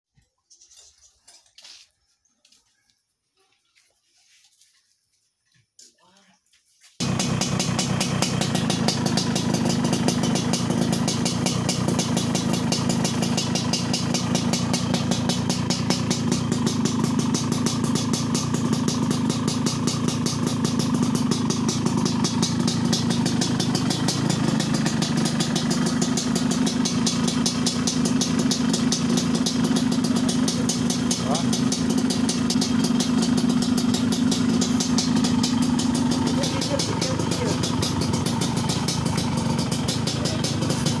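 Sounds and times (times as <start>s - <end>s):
two-stroke motorcycle engine idling: 7.0s - 41.0s.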